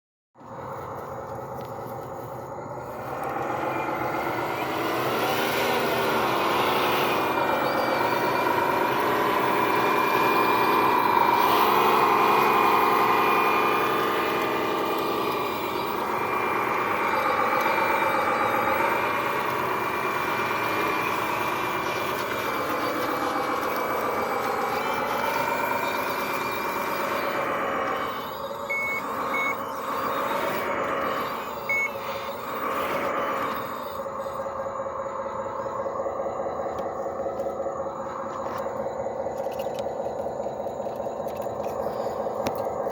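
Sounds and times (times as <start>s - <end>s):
steady high whine: 0.4s - 42.9s
toy vehicle engines: 0.4s - 42.9s.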